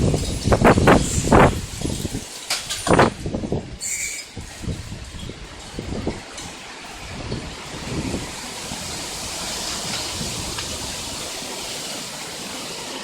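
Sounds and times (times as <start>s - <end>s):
strong wind rushing through trees: 0.0s - 13.0s
wind buffeting microphone: 0.0s - 13.0s.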